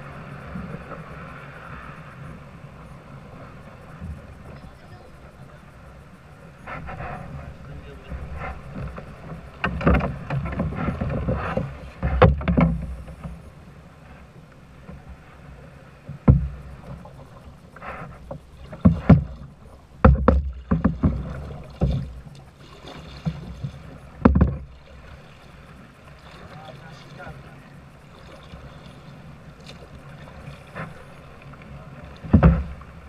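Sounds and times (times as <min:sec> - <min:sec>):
wind rumble on microphone: 0:00.0 - 0:33.0
knocks and thumps in a boat: 0:03.4 - 0:33.0.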